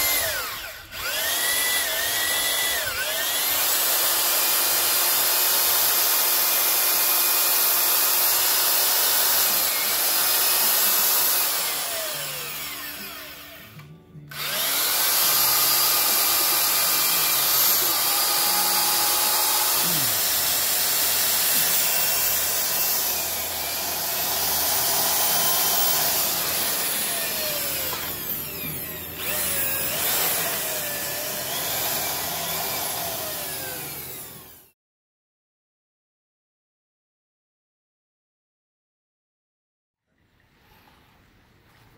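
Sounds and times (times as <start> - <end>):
electric drill boring through wood: 0.0 - 34.7.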